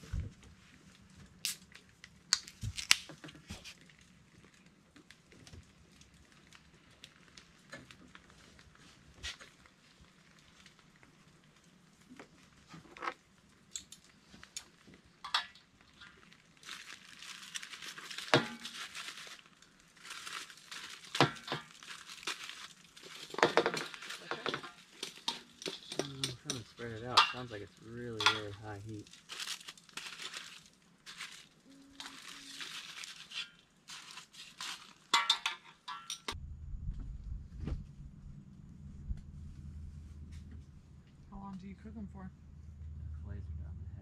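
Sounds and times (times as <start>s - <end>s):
fish crackling in hot bowl: 0.3s - 36.4s.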